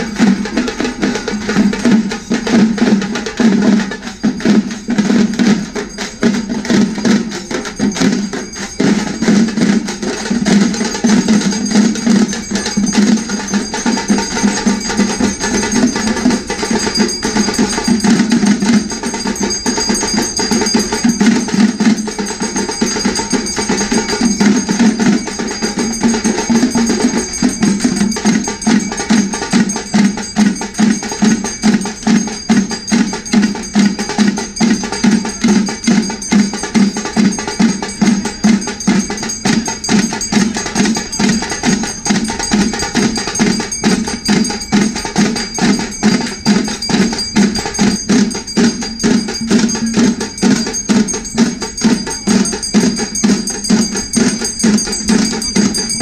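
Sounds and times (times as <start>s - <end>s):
drums beating steady rhythm: 0.0s - 56.0s
high steady ringing tone: 0.0s - 56.0s.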